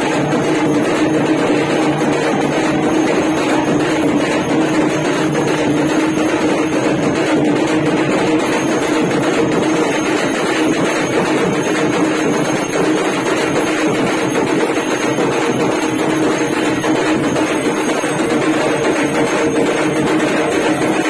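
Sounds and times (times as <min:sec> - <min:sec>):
loud festival music: 0:00.0 - 0:21.0
noisy din: 0:00.0 - 0:21.0.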